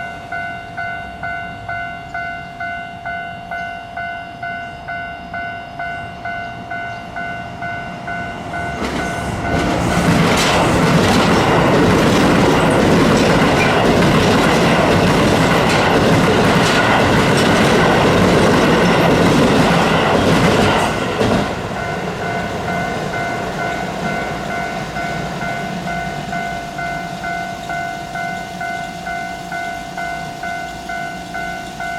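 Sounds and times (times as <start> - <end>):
level-crossing warning bell: 0.0 - 31.9
train passing: 0.0 - 31.9.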